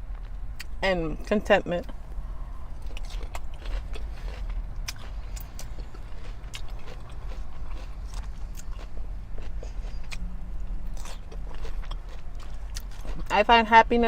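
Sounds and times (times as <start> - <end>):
steady low hum: 0.0 - 14.0
person chewing food: 1.8 - 13.3.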